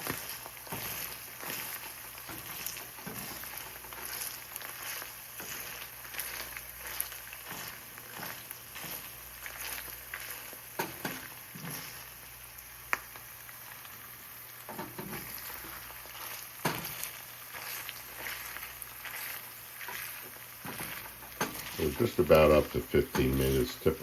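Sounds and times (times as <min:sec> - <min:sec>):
oil sizzling in a frying pan: 0:00.0 - 0:23.8
oil popping and crackling: 0:00.0 - 0:24.0.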